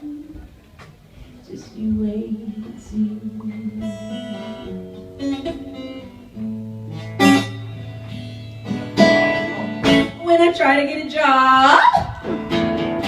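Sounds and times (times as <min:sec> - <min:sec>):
acoustic blues guitar: 0:00.0 - 0:13.0.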